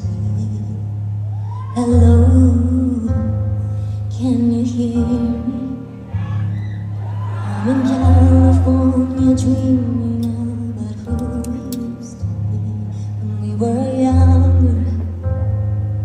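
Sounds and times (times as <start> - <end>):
woman singing ballad: 0.0 - 6.6, 7.3 - 15.6.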